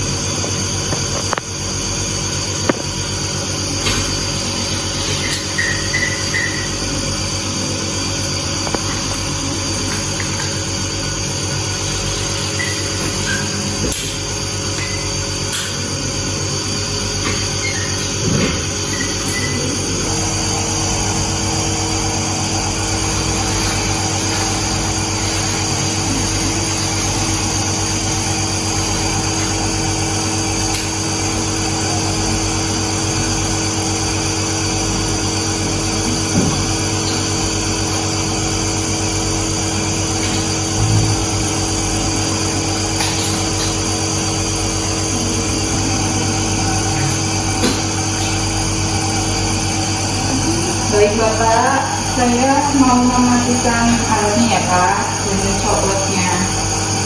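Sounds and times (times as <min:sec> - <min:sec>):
nebulizer pump motor humming: 0:00.0 - 0:57.0.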